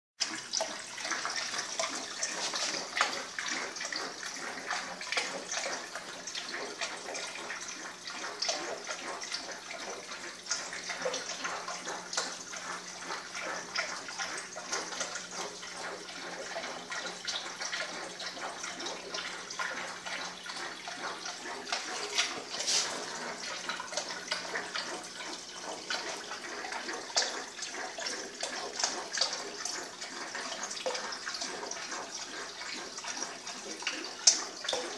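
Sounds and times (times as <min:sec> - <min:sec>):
water splashing and trickling: 0:00.2 - 0:34.9.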